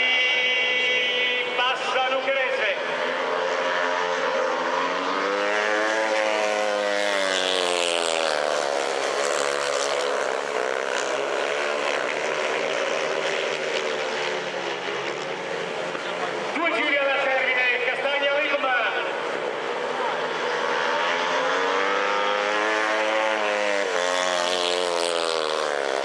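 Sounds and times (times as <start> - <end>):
racing motorcycle engines: 0.0 - 26.0.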